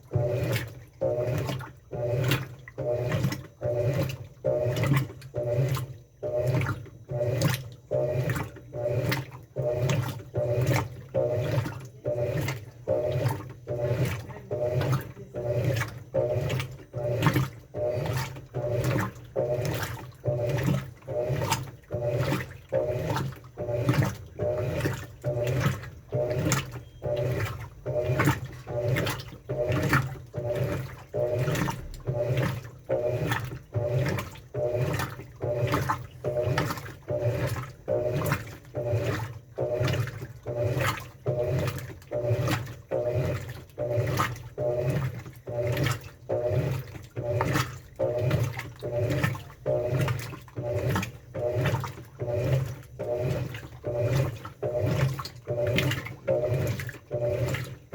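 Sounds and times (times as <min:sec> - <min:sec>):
motor hum: 0:00.0 - 0:57.9
washing machine swishing: 0:00.0 - 0:57.9.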